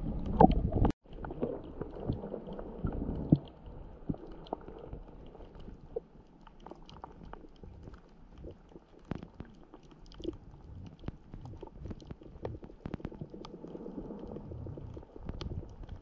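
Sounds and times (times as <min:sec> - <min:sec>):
underwater clicks and crackles: 0:00.0 - 0:16.0
underwater rumble of moving water: 0:00.0 - 0:16.0.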